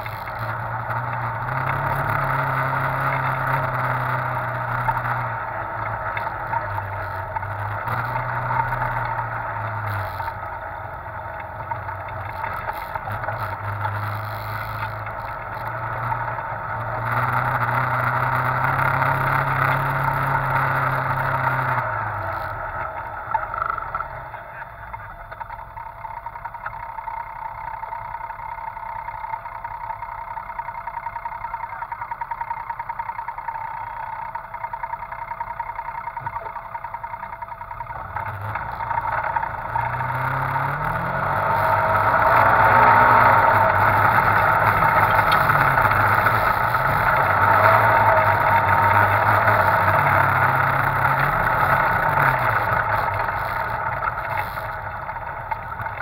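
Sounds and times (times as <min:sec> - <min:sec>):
utility vehicle engine revving: 0:00.0 - 0:56.0.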